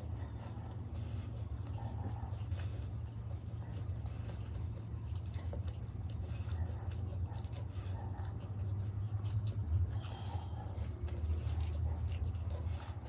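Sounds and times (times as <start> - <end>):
close chewing mouth sounds: 0.0 - 13.0
steady low hum: 0.0 - 13.0.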